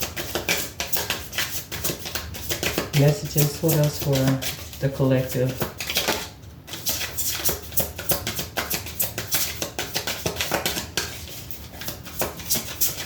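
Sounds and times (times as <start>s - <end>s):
cards being shuffled: 0.1s - 13.0s.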